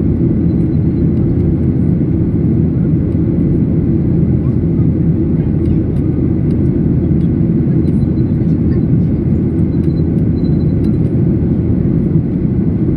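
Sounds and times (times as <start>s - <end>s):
airplane engines humming: 0.0s - 12.9s.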